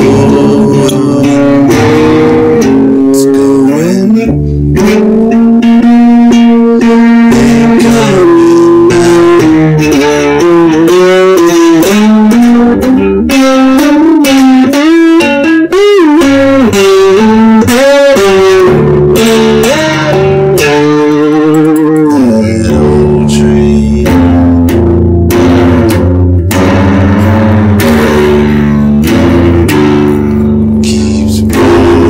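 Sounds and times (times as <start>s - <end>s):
lead guitar bending notes: 0.0s - 32.0s
steady bass line: 0.0s - 32.0s.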